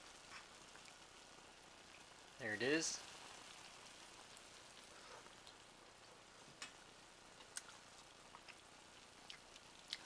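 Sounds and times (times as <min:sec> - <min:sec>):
food simmering in a frying pan: 0:00.0 - 0:10.0.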